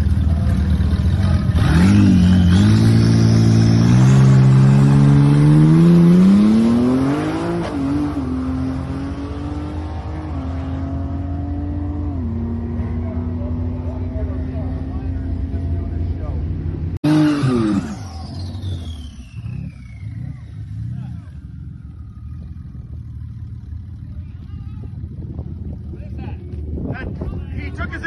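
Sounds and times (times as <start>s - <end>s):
car engine accelerating hard: 0.0s - 23.9s.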